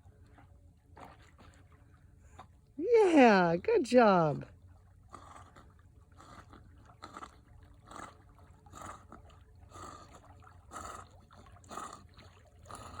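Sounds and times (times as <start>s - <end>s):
water sloshing from paddling: 0.0s - 13.0s.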